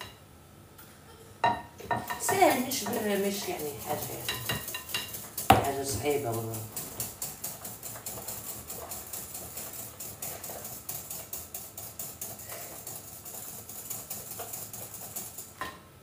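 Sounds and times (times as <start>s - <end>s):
whisk beating mixture in bowl: 1.9s - 15.7s.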